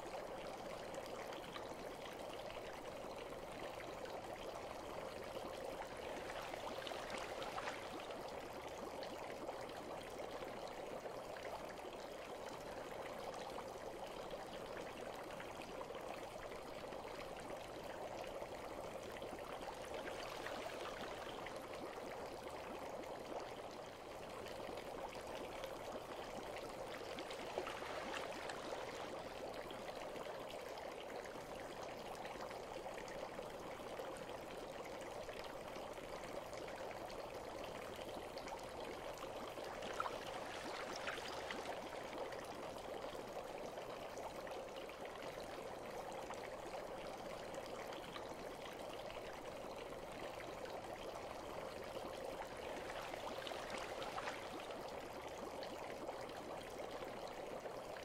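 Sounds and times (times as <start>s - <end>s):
gentle flowing bath water: 0.0s - 58.0s.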